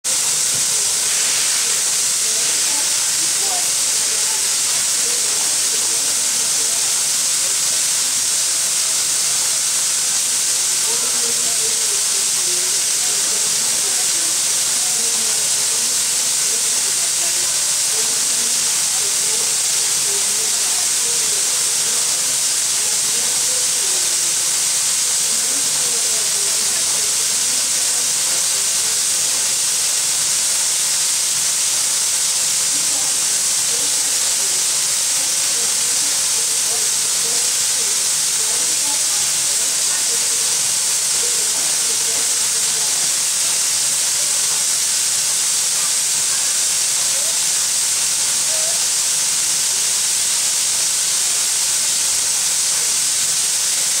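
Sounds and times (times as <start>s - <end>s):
steam locomotive hissing steam: 0.0s - 54.0s.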